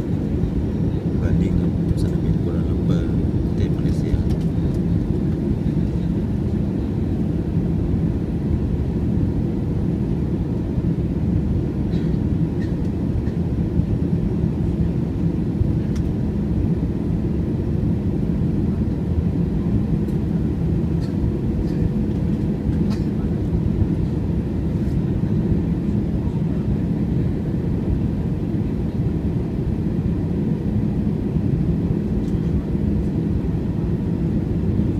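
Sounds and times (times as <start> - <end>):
jet engine roar in cabin: 0.0 - 34.9.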